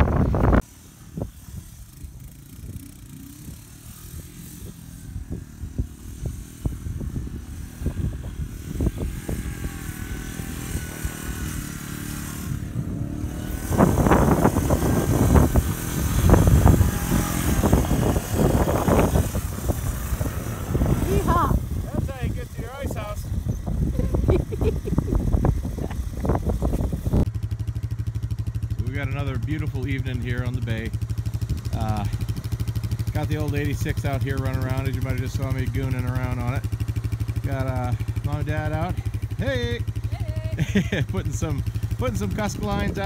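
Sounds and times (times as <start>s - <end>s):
three-wheeler engine revving: 0.0s - 43.0s.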